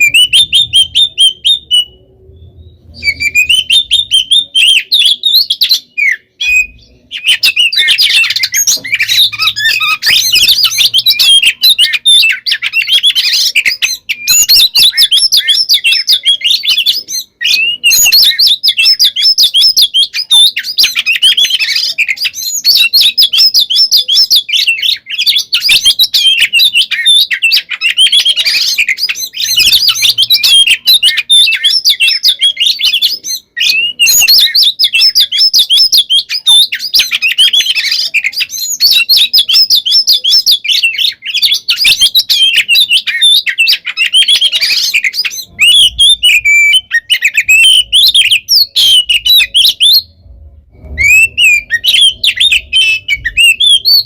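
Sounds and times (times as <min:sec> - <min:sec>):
magpie-robin singing: 0:00.0 - 0:54.0.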